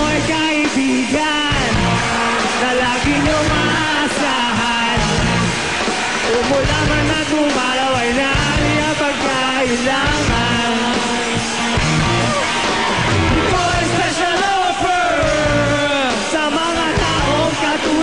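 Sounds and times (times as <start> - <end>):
live rap-rock band playing: 0.0 - 18.0.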